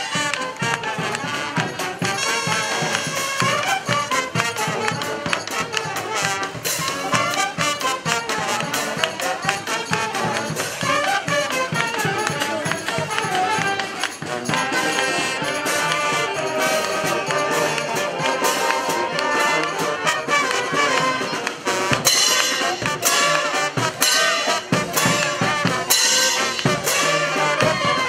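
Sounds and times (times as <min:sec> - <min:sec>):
brass band playing: 0:00.0 - 0:28.0
marching drums beat: 0:00.0 - 0:28.0.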